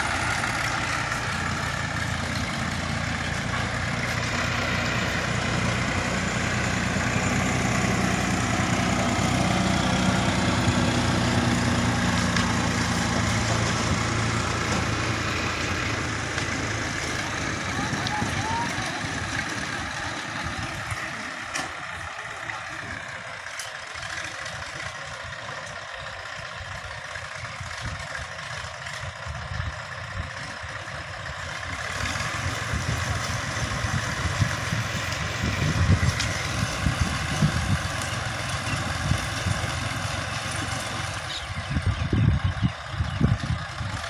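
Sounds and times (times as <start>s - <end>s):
diesel tractor engine running: 0.0s - 44.0s.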